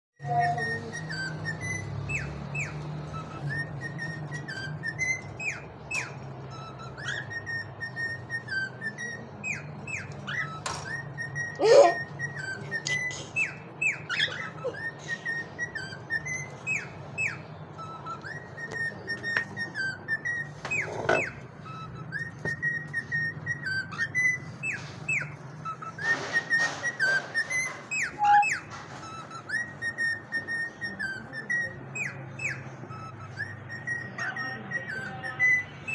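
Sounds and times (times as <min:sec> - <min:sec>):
cockatiels whistling and chirping: 0:00.2 - 0:35.9.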